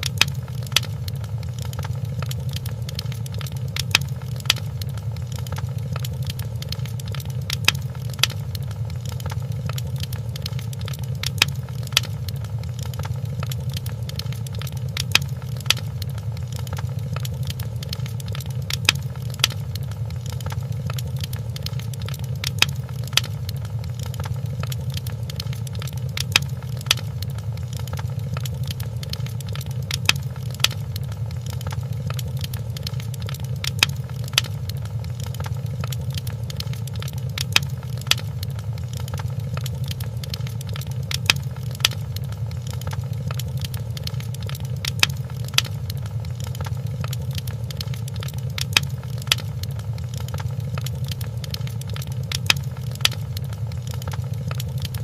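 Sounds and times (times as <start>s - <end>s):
fireplace crackling and popping: 0.0s - 55.0s.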